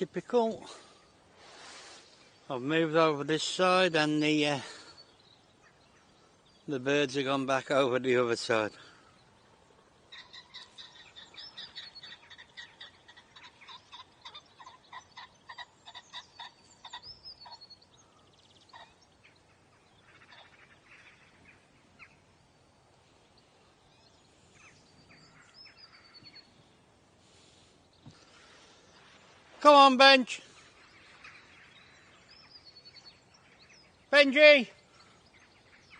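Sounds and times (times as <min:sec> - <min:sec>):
birds calling: 0:00.0 - 0:35.9.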